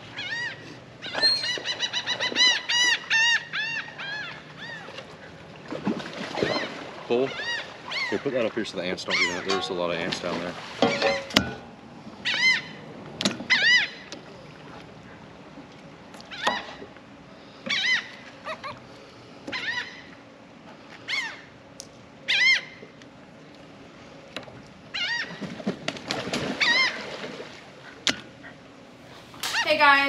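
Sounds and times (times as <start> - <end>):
gulls calling: 0.0 - 21.6, 22.2 - 23.0, 24.8 - 30.0.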